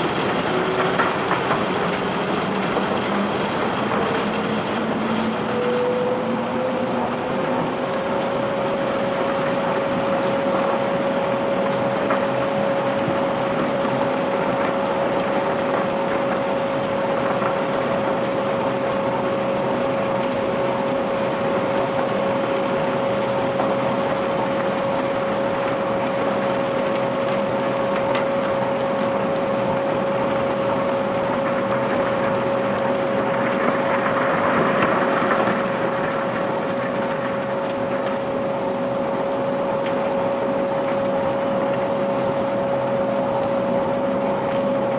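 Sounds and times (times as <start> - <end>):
conveyor machinery running: 0.0 - 44.9
steady mechanical whine: 0.0 - 44.9.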